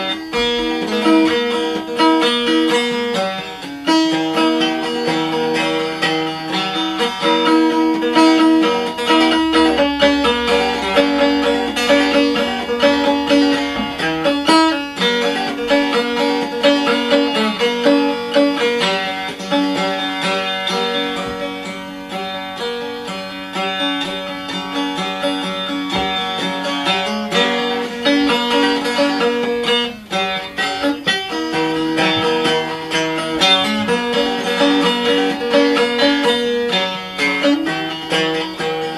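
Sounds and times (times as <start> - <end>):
banjo picking a tune: 0.0 - 38.9.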